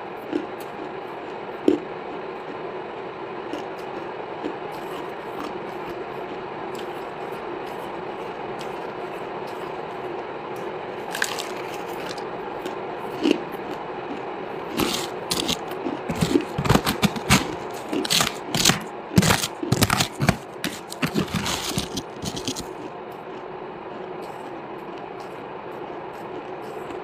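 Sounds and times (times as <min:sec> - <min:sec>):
chewing hard crunchy food: 0:00.2 - 0:27.0.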